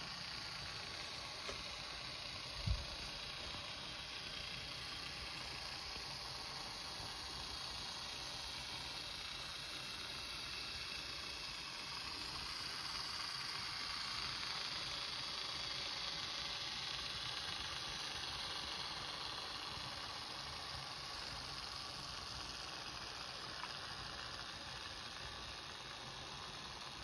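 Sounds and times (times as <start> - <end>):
model train whirring: 0.0 - 27.0.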